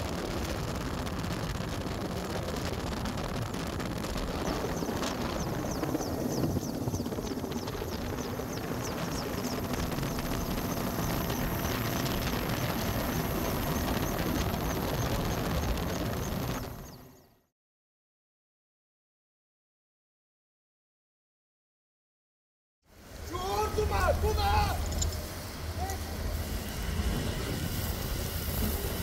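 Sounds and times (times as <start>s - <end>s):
helicopter rumble overhead: 0.0s - 17.5s, 22.9s - 29.0s.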